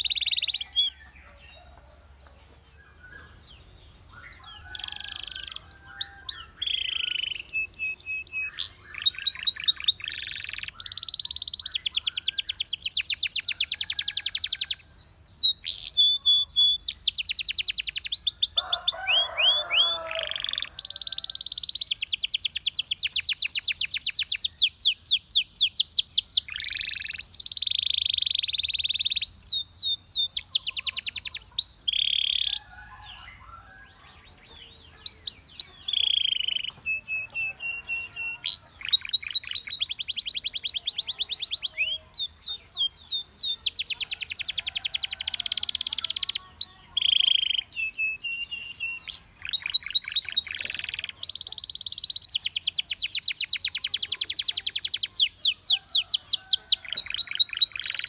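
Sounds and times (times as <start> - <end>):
canary singing trills: 0.0 - 2.0, 2.7 - 58.0.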